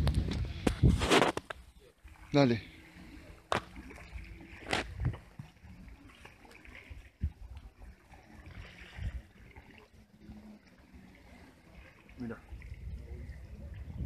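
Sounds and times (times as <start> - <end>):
water lapping against wall: 0.0 - 14.0.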